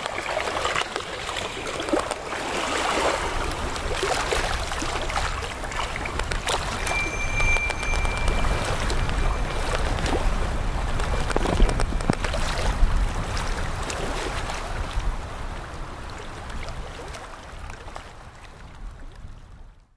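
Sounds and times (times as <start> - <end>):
waves splashing on rocks: 0.0 - 18.2
wind on microphone: 0.0 - 19.9.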